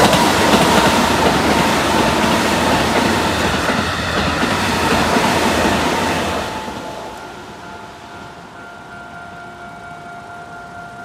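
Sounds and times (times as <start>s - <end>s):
level crossing warning bell: 0.0s - 11.0s
train wheels rushing on rails: 0.0s - 11.0s.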